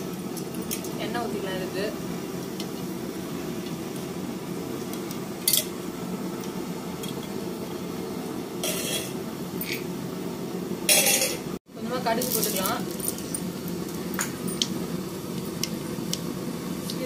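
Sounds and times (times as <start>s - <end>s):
pressure stove burner roaring: 0.0s - 17.0s.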